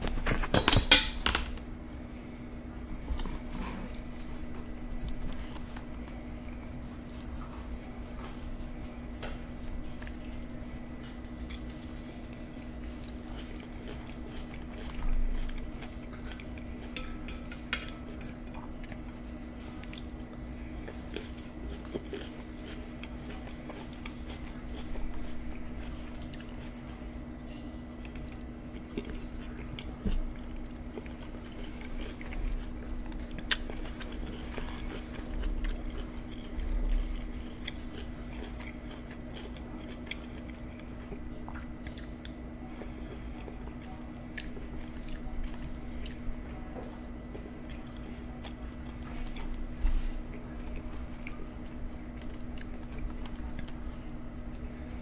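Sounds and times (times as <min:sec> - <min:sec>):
steady low hum: 0:00.0 - 0:55.0
chewing with wet mouth sounds: 0:03.1 - 0:55.0.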